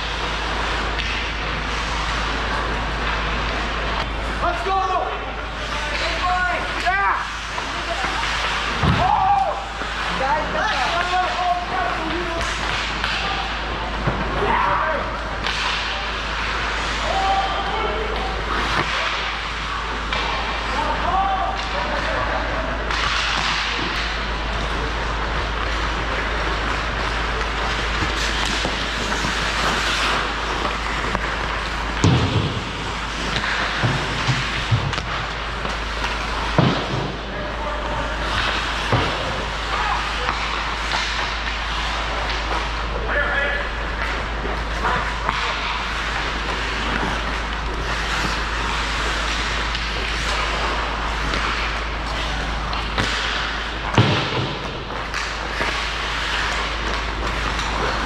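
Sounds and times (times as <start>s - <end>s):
hockey game noise: 0.0s - 58.0s.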